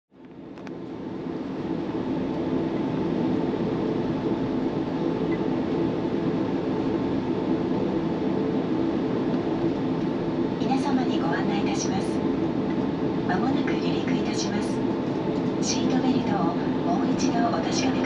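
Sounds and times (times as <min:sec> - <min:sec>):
airliner cabin hum: 0:00.2 - 0:18.0.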